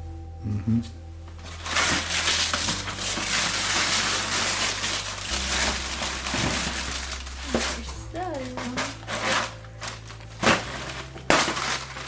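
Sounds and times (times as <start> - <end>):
paper packaging rustling: 1.4 - 12.0.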